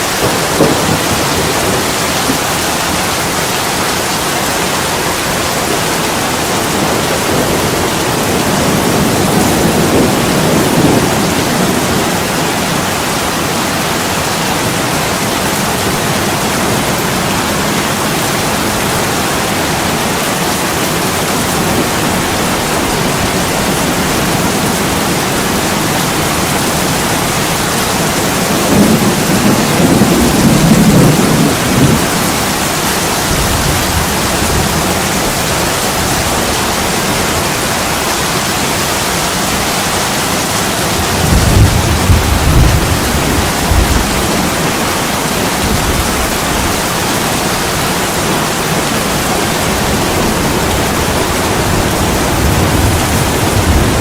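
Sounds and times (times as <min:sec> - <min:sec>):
thunder rolling: 0:00.0 - 0:03.8, 0:06.3 - 0:13.8, 0:15.8 - 0:36.9, 0:40.5 - 0:46.9, 0:48.8 - 0:54.0
heavy rain on window: 0:00.0 - 0:54.0.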